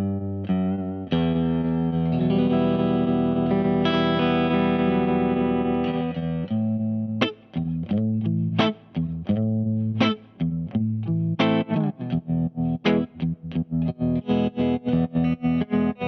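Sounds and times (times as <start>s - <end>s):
electric guitar with tremolo: 0.0s - 16.0s.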